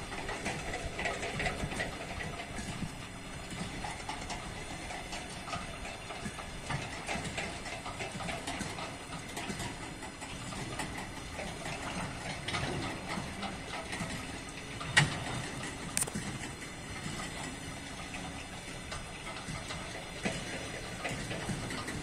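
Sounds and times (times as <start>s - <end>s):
distant diesel locomotive engine: 0.0s - 22.0s
wagon wheels clattering on rails: 0.0s - 22.0s.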